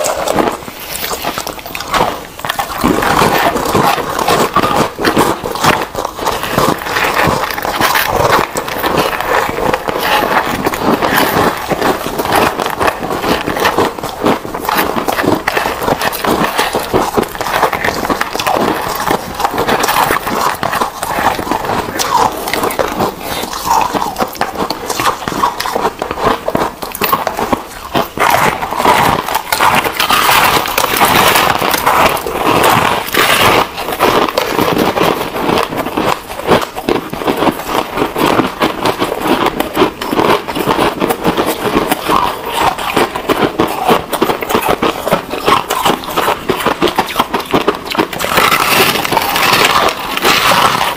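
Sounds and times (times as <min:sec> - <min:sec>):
crunching and chewing ice: 0:00.0 - 0:50.9.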